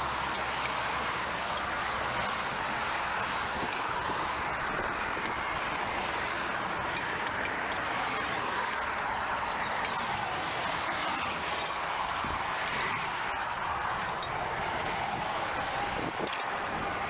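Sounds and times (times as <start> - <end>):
highway traffic rushing: 0.0 - 17.0.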